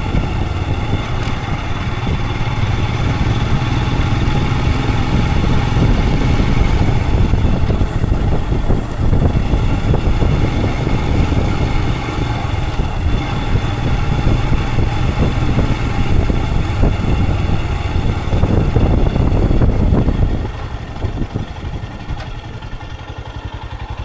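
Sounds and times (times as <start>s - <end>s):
motorcycle engine running and idling: 0.0s - 24.0s.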